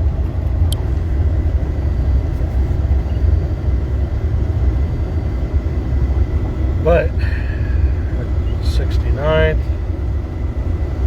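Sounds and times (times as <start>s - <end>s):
car engine and tyre road noise: 0.0s - 11.0s.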